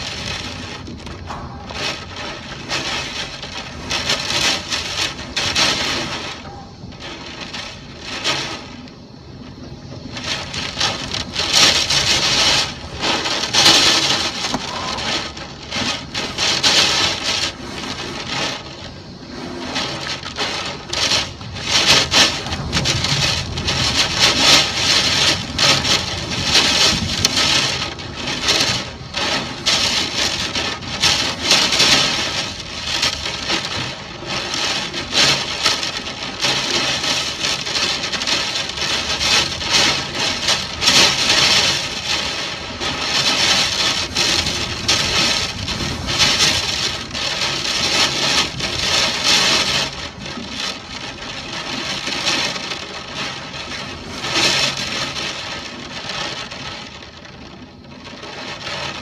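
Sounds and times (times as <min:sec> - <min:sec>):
wind gusting through trees: 0:00.0 - 0:59.0.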